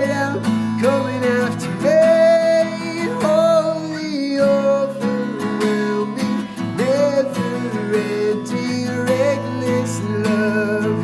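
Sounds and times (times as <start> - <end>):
person singing: 0.0 - 11.0
strummed acoustic guitar: 0.0 - 11.0.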